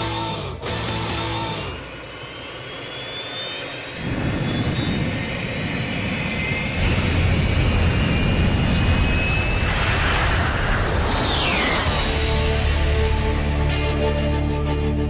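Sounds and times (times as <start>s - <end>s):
machine tool whine: 0.0s - 15.0s
rushing noise: 1.9s - 14.0s.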